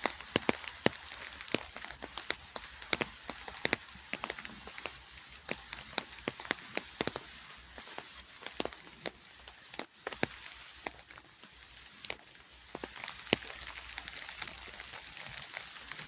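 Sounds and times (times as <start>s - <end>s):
sharp raindrop taps: 0.0s - 16.0s
steady rain hiss: 0.0s - 16.0s.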